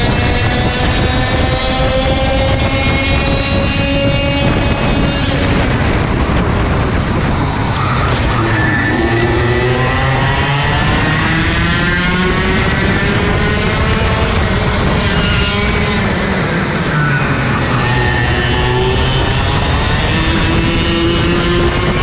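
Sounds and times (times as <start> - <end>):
kart engines racing: 0.0 - 22.0.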